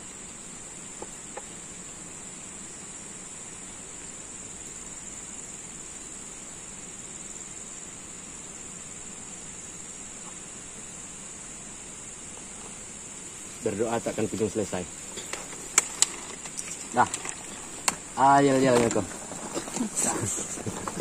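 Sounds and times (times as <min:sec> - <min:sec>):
insects droning in chorus: 0:00.0 - 0:21.0.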